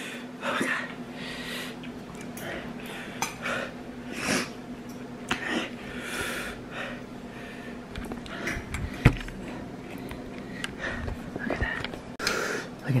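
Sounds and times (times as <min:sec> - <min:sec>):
sniffling and hard breathing: 0:00.0 - 0:04.6, 0:05.3 - 0:12.8.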